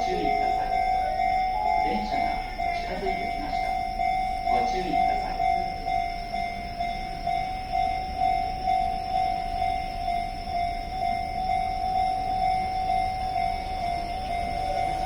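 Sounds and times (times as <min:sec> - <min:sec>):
level-crossing alarm bell tone: 0:00.0 - 0:15.0.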